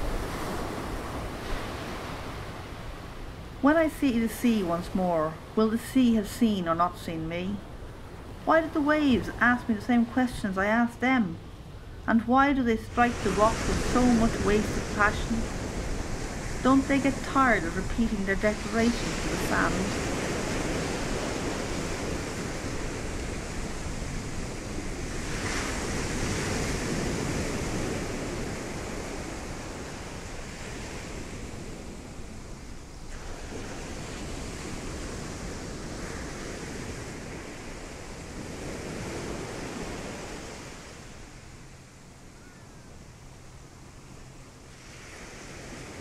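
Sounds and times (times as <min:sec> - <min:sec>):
waves breaking ashore: 0:00.0 - 0:46.0.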